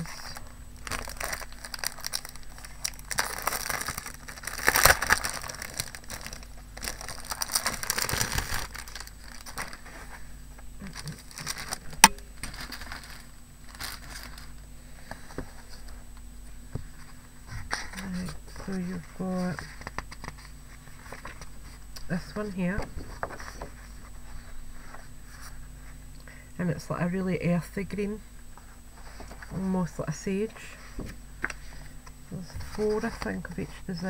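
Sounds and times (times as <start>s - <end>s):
paper crinkling and rustling: 0.0s - 16.0s, 16.7s - 21.8s, 22.6s - 26.0s, 30.9s - 33.8s.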